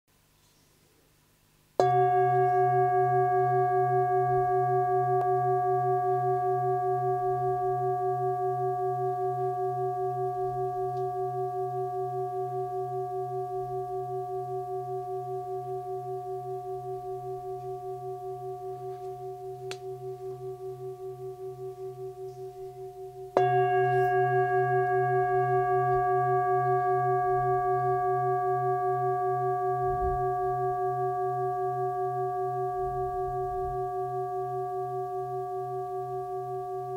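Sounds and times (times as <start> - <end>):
singing bowl ringing: 1.8 - 36.9
singing bowl struck: 1.8 - 36.9.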